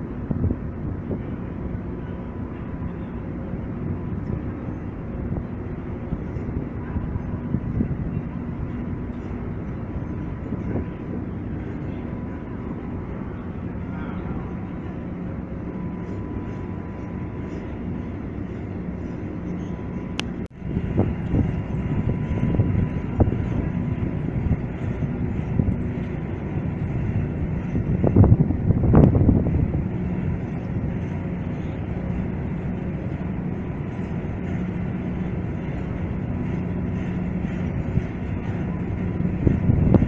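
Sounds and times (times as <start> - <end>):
ship lift machinery rumbling: 0.0 - 40.0.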